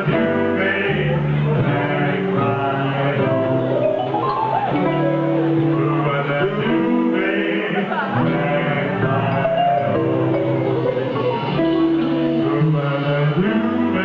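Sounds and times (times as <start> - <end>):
bass line: 0.0 - 7.2, 8.2 - 14.0
electric guitar: 0.0 - 14.0
person singing: 0.0 - 14.0
live band playing: 1.3 - 7.2, 8.6 - 14.0.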